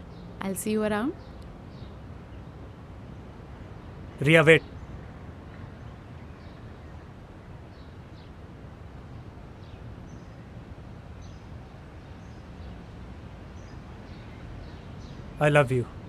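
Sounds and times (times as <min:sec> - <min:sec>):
low background ambience: 0:00.0 - 0:16.0.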